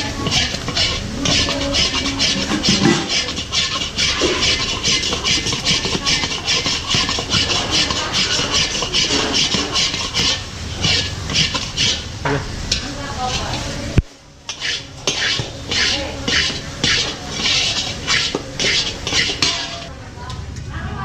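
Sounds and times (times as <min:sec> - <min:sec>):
spatula scraping and stirring in pan: 0:00.0 - 0:19.9.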